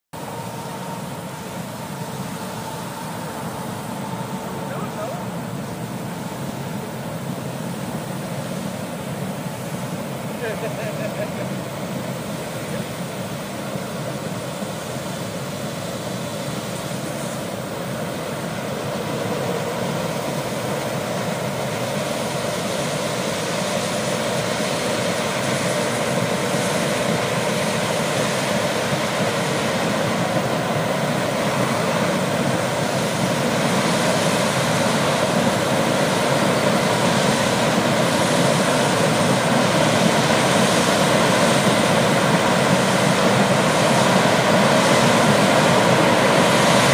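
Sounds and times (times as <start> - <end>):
combine harvester running: 0.2 - 46.9.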